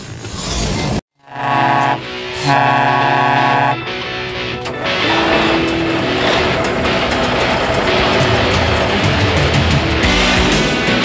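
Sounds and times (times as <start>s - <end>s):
theme music: 1.2s - 11.0s.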